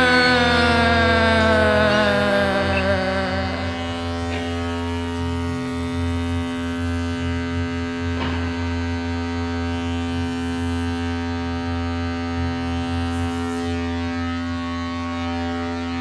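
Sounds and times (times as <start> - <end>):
low drone chord: 0.0 - 16.0
wavering low bass: 0.0 - 16.0.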